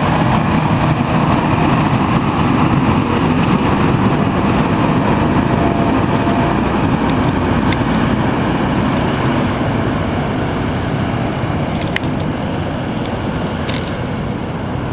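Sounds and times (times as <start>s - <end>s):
rail grinder train rumble: 0.0s - 14.9s.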